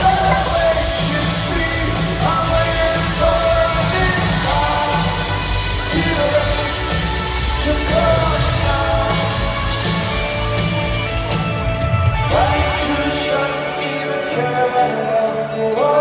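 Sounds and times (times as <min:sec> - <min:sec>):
person singing: 0:00.0 - 0:10.3, 0:12.3 - 0:16.0
bass line: 0:00.0 - 0:13.0
live rock band playing: 0:00.0 - 0:16.0.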